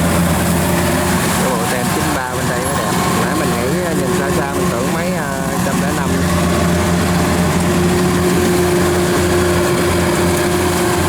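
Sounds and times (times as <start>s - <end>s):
diesel engine running steadily: 0.0s - 11.0s.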